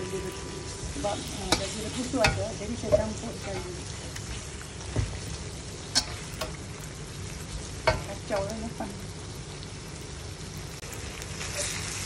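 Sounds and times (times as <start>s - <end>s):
beef sizzling in a wok: 0.0s - 12.0s.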